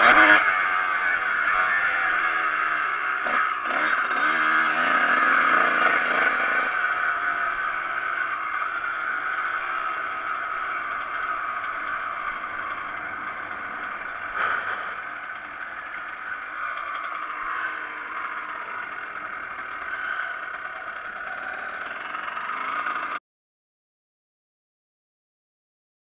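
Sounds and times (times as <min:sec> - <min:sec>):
motorcycle engine at low revs: 0:00.0 - 0:23.2.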